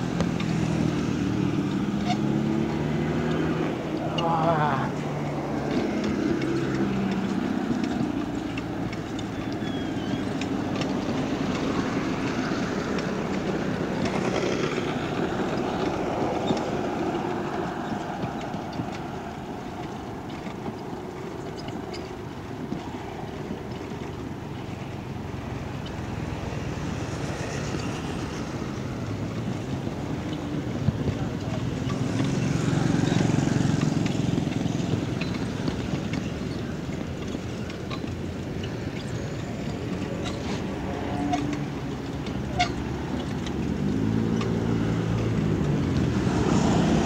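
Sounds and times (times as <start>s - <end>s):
road traffic noise: 0.0s - 47.0s.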